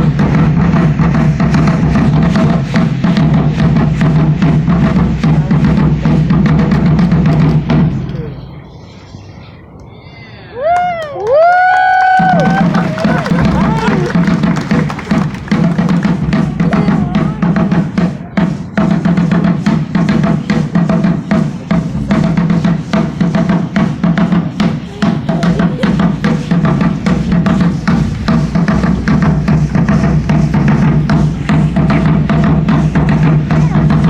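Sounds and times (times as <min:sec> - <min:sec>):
ceremonial drumming: 0:00.0 - 0:08.1, 0:12.1 - 0:34.0.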